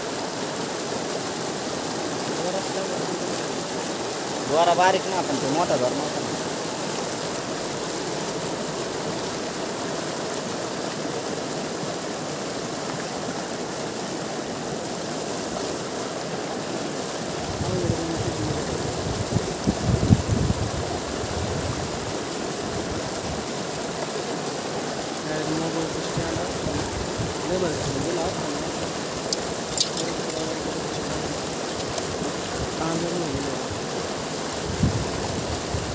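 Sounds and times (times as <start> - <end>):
river water rushing over rocks: 0.0 - 35.9.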